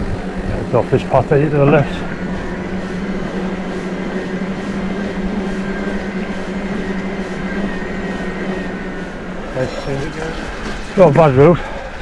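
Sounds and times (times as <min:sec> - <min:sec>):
electric bike motor whining: 0:00.0 - 0:12.0
tyres rumbling on path: 0:00.0 - 0:12.0.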